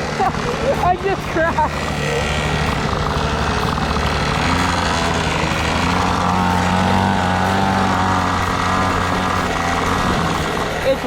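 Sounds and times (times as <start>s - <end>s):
small engine buzzing: 0.0s - 11.0s.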